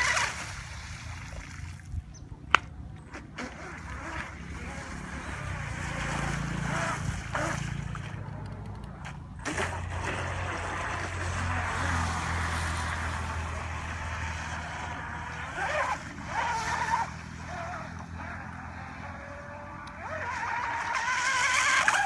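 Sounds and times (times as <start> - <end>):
model boat motor droning: 0.0 - 22.0.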